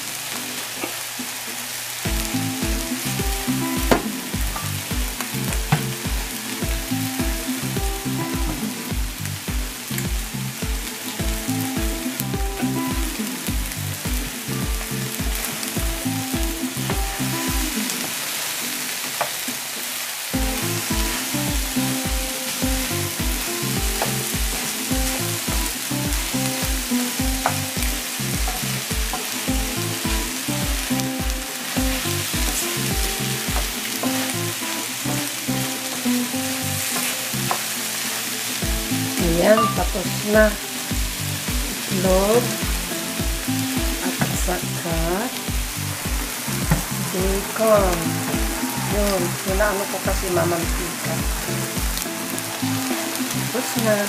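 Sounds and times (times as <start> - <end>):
eggs sizzling in a frying pan: 0.0 - 54.0
music with bass beat: 2.1 - 18.1, 20.4 - 37.7, 38.6 - 54.0.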